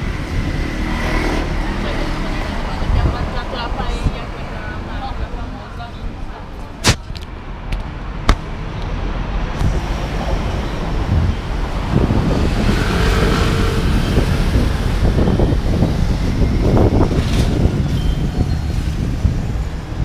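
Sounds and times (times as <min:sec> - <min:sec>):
wind buffeting microphone: 0:00.0 - 0:05.4, 0:06.0 - 0:20.0
traffic noise: 0:00.0 - 0:20.0.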